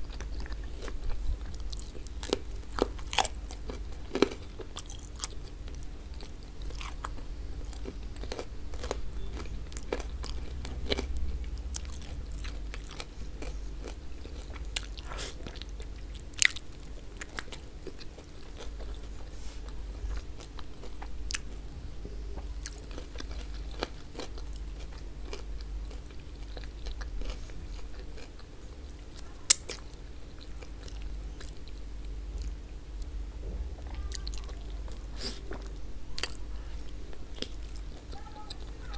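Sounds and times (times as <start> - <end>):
chewing meat: 0.0 - 33.2, 33.8 - 38.9
low steady hum: 0.0 - 38.9.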